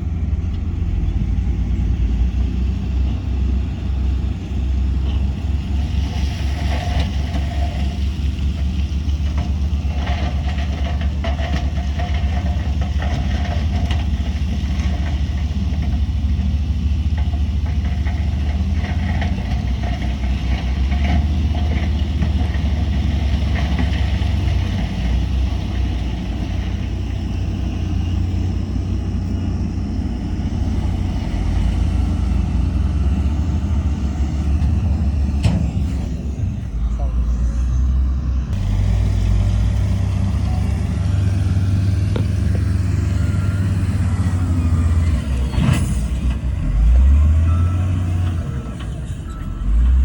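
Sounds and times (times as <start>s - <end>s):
diesel machinery rumbling: 0.0s - 50.0s.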